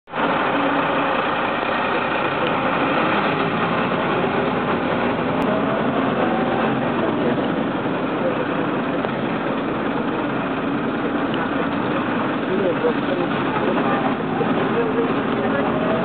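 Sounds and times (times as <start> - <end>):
bus diesel engine inside cabin: 0.0 - 16.0.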